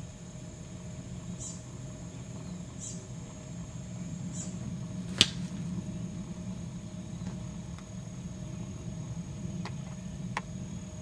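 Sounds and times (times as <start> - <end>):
steady high-pitched hum: 0.0 - 11.0.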